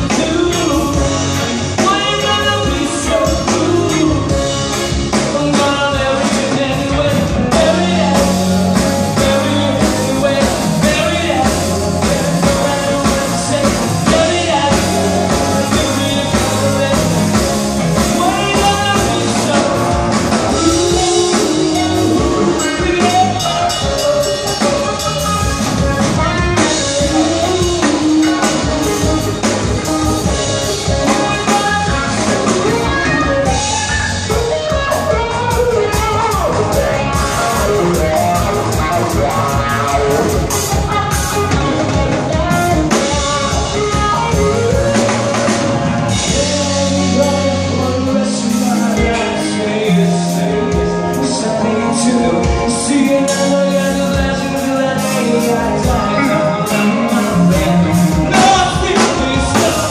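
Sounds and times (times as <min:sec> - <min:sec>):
live band playing reggae-pop: 0:00.0 - 0:59.9
man singing: 0:00.0 - 0:59.9.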